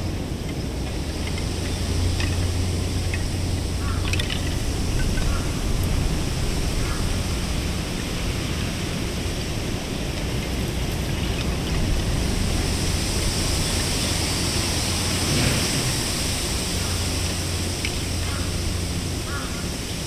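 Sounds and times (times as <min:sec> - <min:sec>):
wind rushing: 0:00.7 - 0:20.0.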